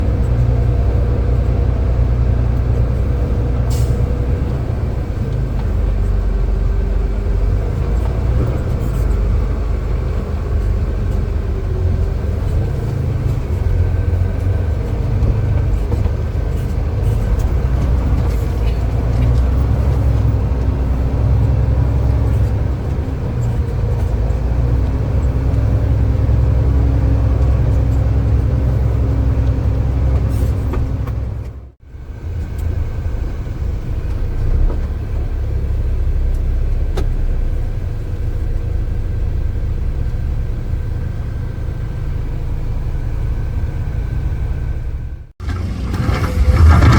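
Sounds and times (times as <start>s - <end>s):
heavy diesel machinery rumbling: 0.0s - 46.9s.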